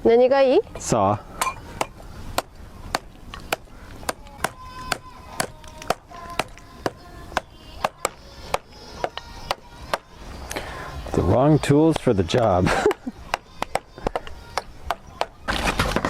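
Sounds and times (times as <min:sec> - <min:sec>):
faint music: 0:00.0 - 0:16.0.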